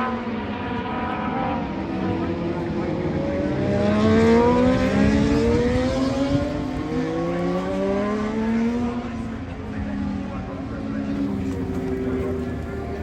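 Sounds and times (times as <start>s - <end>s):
motorcycle engine accelerating: 0.0s - 9.2s, 11.0s - 13.0s.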